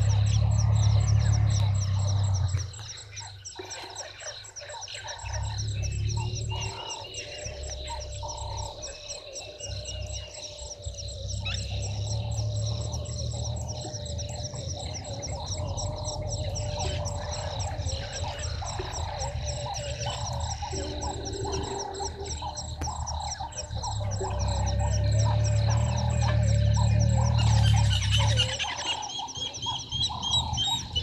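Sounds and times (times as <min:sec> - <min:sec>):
low rumbling noise: 0:00.0 - 0:03.6, 0:05.2 - 0:28.8
frogs calling: 0:00.0 - 0:31.0
insects ticking: 0:00.0 - 0:31.0.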